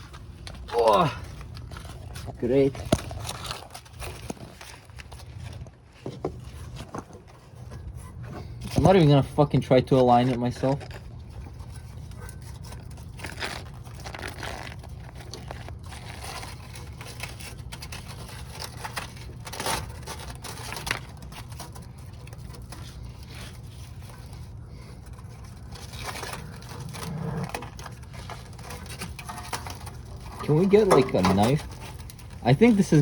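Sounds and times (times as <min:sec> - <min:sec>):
bandage scraping and rustling: 0:00.0 - 0:33.0.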